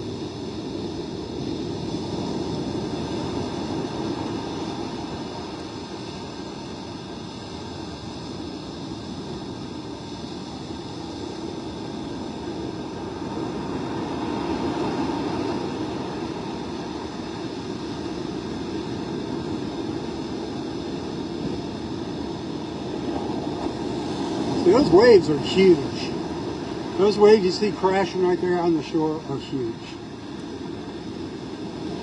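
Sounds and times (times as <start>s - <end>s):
heavy surf: 0.0s - 32.0s
wind: 0.0s - 32.0s.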